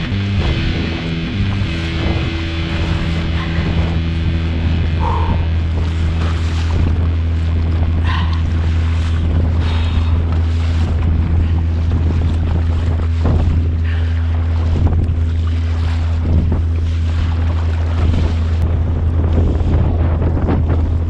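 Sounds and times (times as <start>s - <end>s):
waves washing around kayak: 0.0s - 21.0s
wind buffeting microphone: 0.0s - 21.0s.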